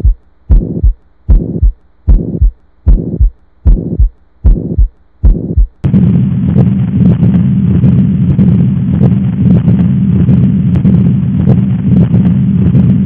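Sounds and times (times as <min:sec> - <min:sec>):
rumbling heart murmur: 0:00.0 - 0:13.0.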